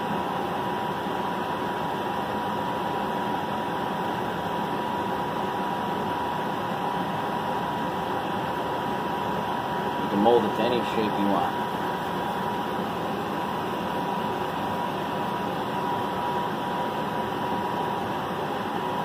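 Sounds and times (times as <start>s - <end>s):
mechanical whir with high whine: 0.0s - 19.0s.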